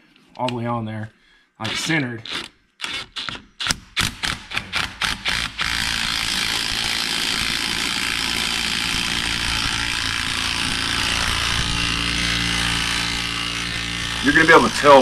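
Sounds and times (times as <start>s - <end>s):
impact wrench running: 2.9s - 15.0s.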